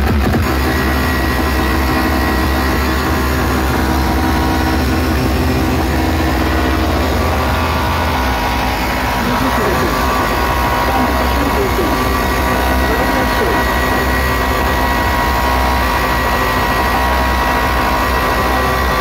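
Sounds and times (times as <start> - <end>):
deep bass drone from speakers: 0.0 - 19.0.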